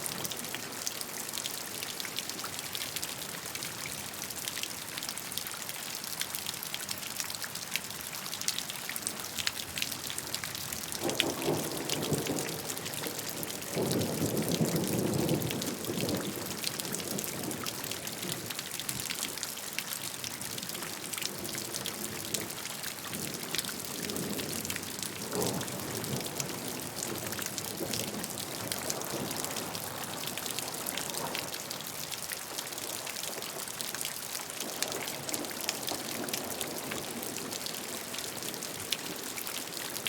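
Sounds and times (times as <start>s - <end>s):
rain falling: 0.0s - 40.0s.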